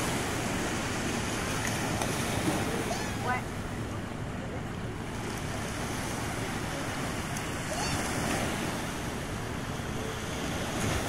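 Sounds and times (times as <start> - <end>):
waves washing on sand: 0.0 - 11.0.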